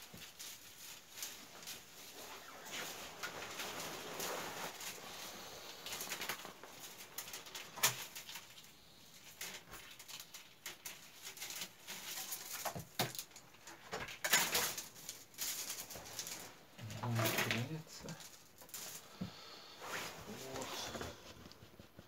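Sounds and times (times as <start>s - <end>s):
willow rods rustling and clicking: 0.0s - 22.0s.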